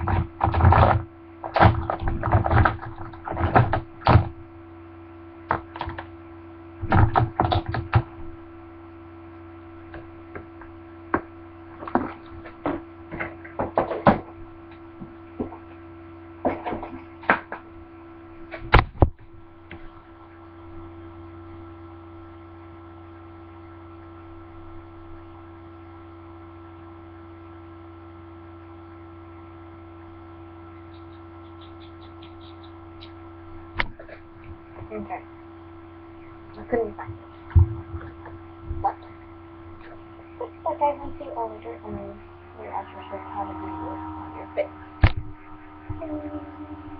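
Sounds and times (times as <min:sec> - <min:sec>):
steady electrical hum: 0:00.0 - 0:46.9.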